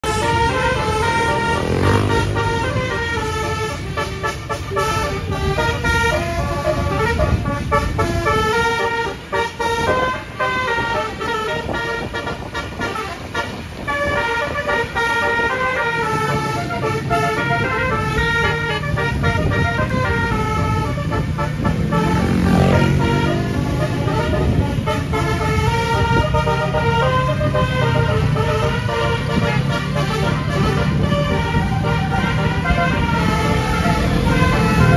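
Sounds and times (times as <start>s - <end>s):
bus engine and road noise: 0.0s - 34.9s
multi-tone bus horn tune: 0.0s - 34.9s.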